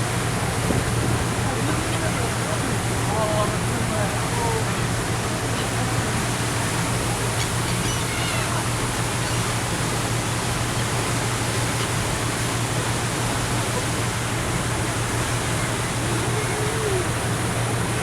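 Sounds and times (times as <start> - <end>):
ferry engine hum: 0.0 - 18.0
wind and water rushing: 0.0 - 18.0.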